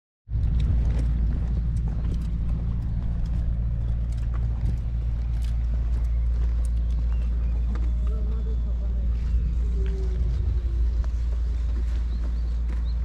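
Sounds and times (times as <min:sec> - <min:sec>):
wind buffeting microphone: 0:00.3 - 0:13.0
footsteps on concrete: 0:00.4 - 0:13.0.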